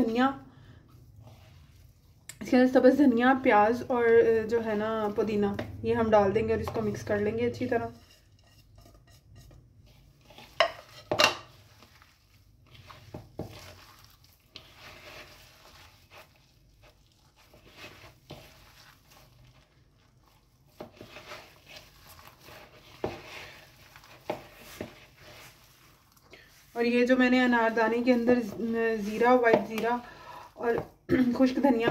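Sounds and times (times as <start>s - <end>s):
hand squishing mashed potatoes: 0.0s - 31.9s.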